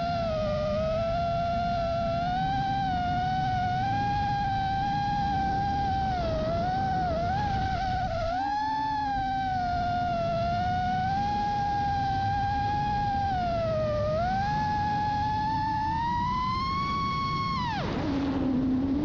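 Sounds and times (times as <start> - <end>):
quadcopter propellers whining: 0.0 - 19.0
rush of wind: 0.0 - 19.0.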